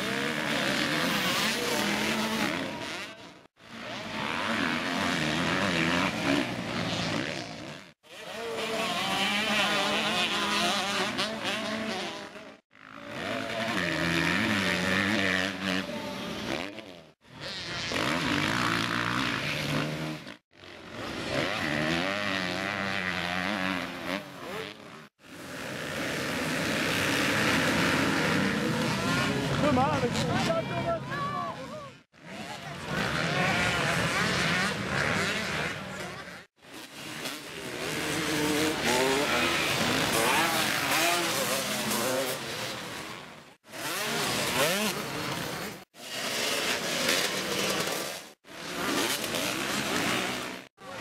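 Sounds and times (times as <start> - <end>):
motocross bike engines revving: 0.0 - 51.0.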